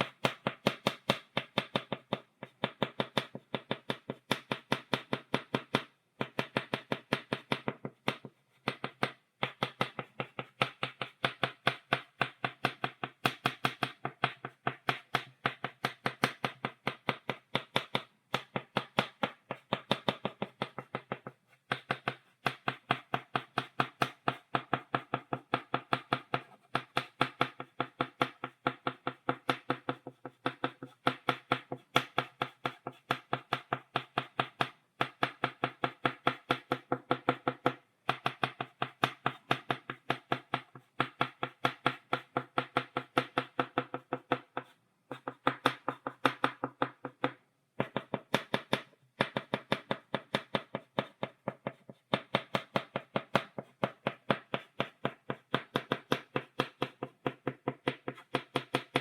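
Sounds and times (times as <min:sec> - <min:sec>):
chalk tapping on blackboard: 0:00.0 - 0:59.0.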